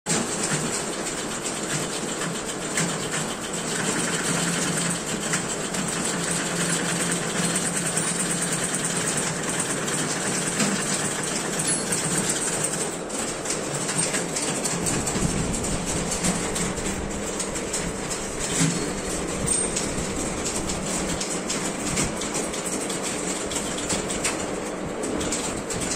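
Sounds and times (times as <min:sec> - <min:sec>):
typewriters clattering: 0:00.1 - 0:25.9.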